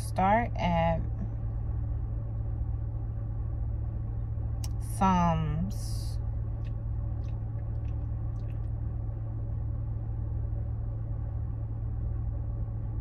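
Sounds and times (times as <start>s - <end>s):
car idling hum: 0.0s - 13.0s.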